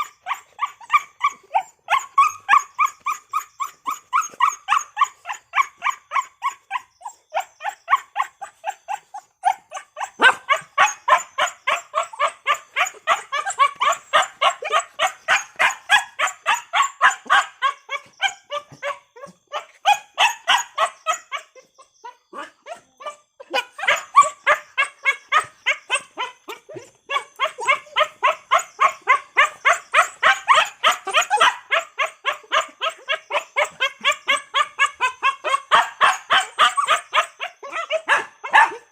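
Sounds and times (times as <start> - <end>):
dog barking: 0.8 - 38.9.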